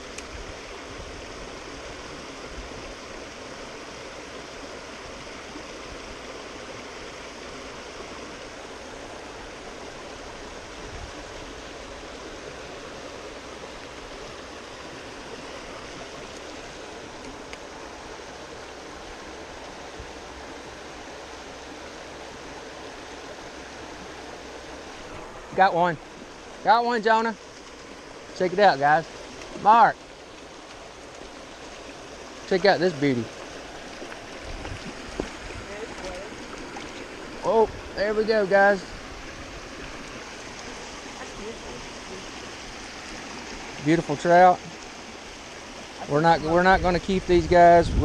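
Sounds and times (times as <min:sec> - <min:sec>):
stream flowing over rocks: 0:00.0 - 0:48.0.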